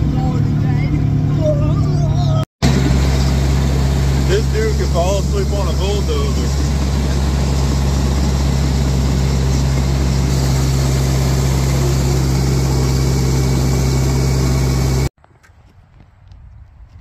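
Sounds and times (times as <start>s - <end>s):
machine engine low hum: 0.0s - 15.2s
faint wind: 0.0s - 17.0s.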